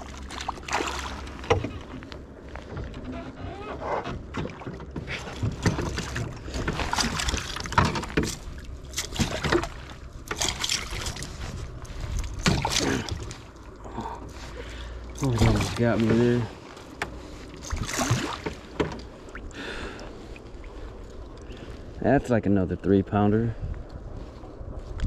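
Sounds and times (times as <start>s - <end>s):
water splashing: 0.0s - 2.7s, 4.3s - 22.2s.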